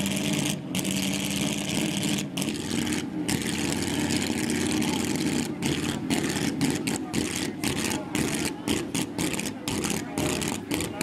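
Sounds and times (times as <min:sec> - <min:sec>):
car engine idling: 0:00.0 - 0:11.0
crowd noise: 0:01.7 - 0:11.0.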